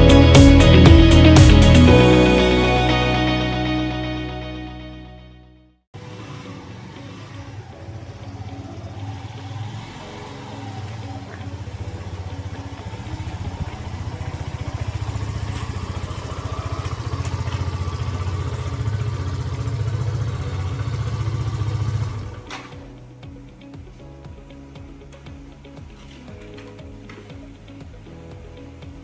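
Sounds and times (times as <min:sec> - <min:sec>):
motorcycle engine running: 0:00.0 - 0:03.2, 0:06.0 - 0:29.0.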